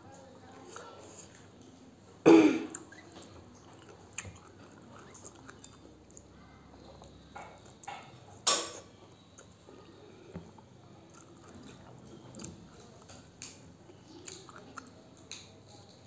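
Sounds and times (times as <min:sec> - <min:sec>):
person chewing food: 0:02.7 - 0:16.0.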